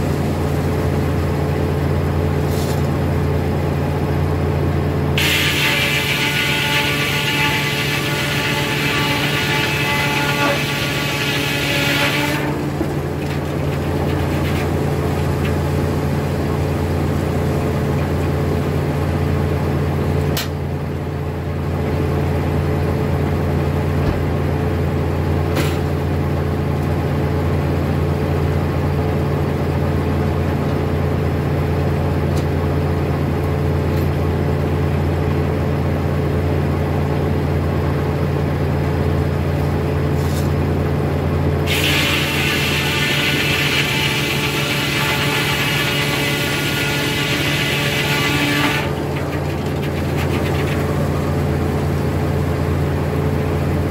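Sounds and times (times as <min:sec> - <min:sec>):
sawmill droning: 0:00.0 - 0:53.9.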